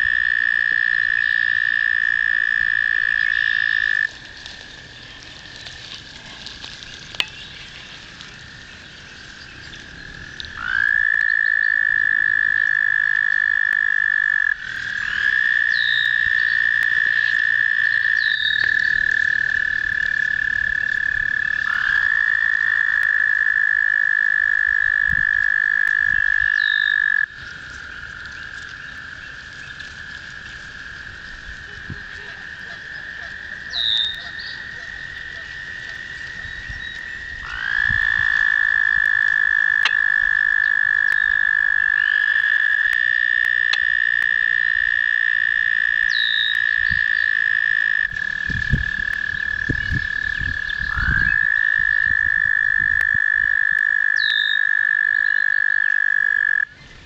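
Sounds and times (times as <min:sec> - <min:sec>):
toads trilling: 0:00.0 - 0:04.2, 0:06.6 - 0:56.8.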